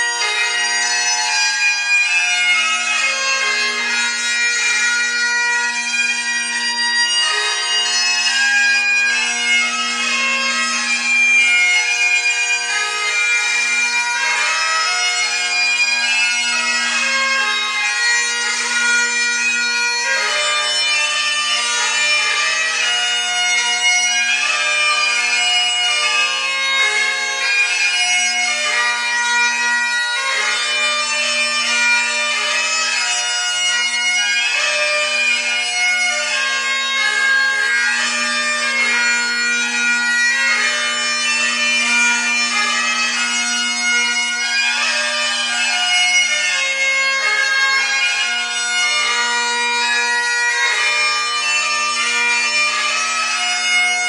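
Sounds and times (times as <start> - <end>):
bagpipe chanter melody: 0.0 - 54.0
bagpipe drones: 0.0 - 54.0.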